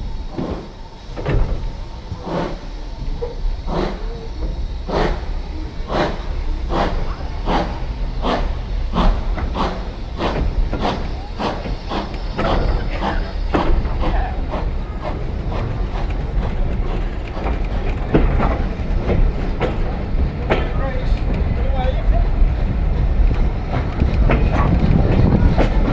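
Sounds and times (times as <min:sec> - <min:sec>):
train wheels clicking over rail joints: 0:00.2 - 0:25.9.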